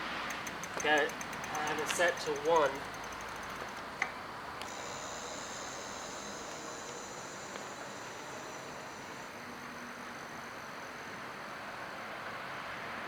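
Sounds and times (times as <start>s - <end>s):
electric bike motor whine: 0.0s - 12.8s.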